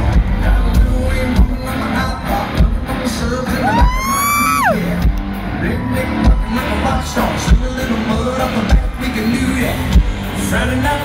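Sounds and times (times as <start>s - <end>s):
live country-rock band: 0.0s - 11.0s.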